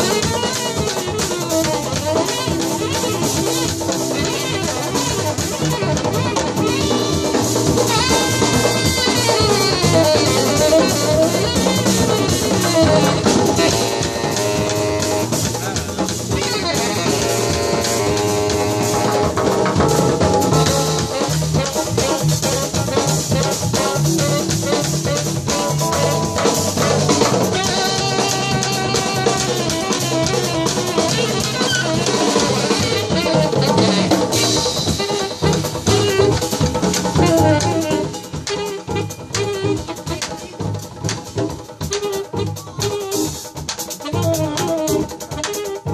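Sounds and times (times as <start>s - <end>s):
drum kit: 0.0s - 45.9s
hand drums rhythm: 0.0s - 45.9s
piano: 0.0s - 45.9s
saxophone: 0.0s - 45.9s.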